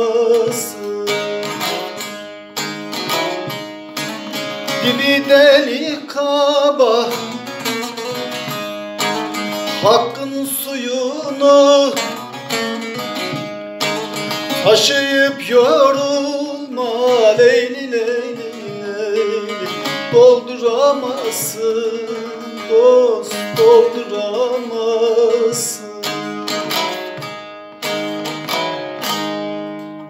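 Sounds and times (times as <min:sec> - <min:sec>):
man singing: 0:00.0 - 0:27.3
long-necked lute strummed: 0:00.0 - 0:30.0.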